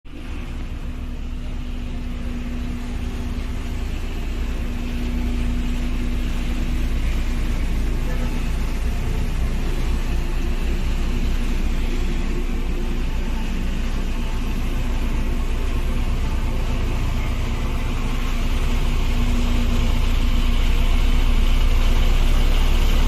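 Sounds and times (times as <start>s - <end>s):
road roller rumbling: 0.0s - 23.0s
steady hum: 0.1s - 23.0s.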